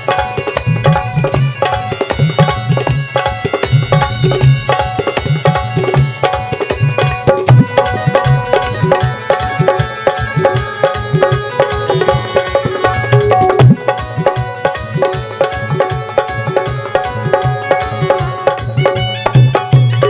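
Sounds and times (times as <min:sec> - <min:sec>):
hand drum rhythm: 0:00.0 - 0:20.0
melody of held notes: 0:00.0 - 0:20.0.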